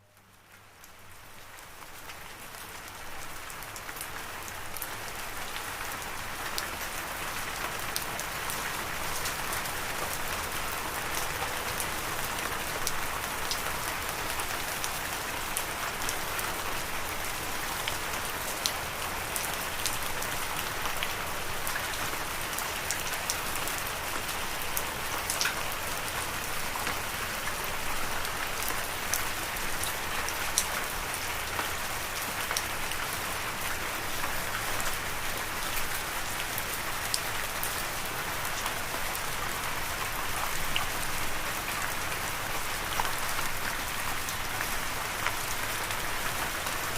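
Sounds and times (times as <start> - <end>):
rain falling: 0.0 - 46.9
raindrops ticking on surface: 0.0 - 46.9.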